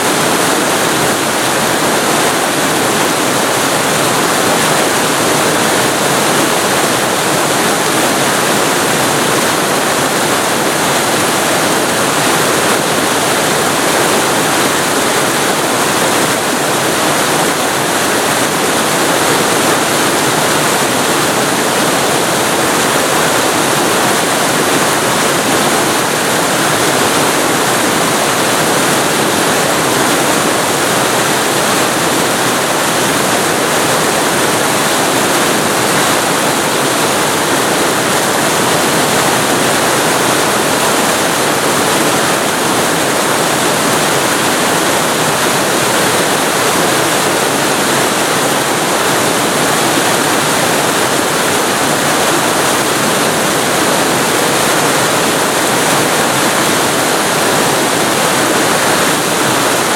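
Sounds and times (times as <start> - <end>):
waterfall rushing hiss: 0.0 - 59.9.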